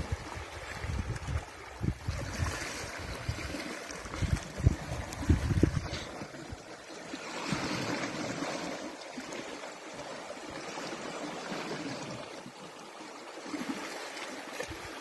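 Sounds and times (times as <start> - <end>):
sea water splashing and hissing: 0.0 - 15.0.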